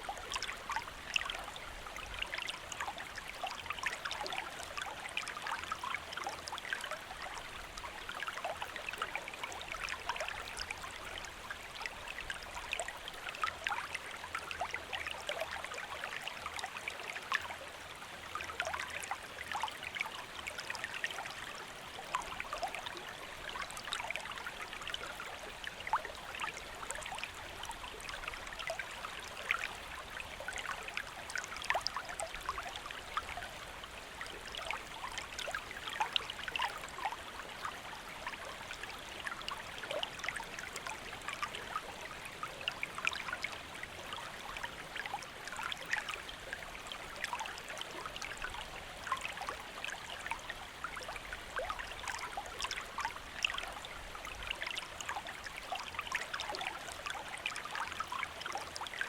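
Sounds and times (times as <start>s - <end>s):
stream running over stones: 0.0s - 59.0s.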